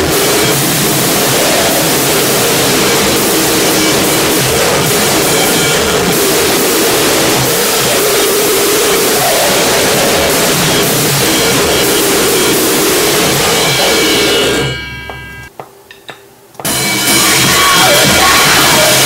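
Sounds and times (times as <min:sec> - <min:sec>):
harsh distorted noise music: 0:00.0 - 0:15.5, 0:16.6 - 0:19.0.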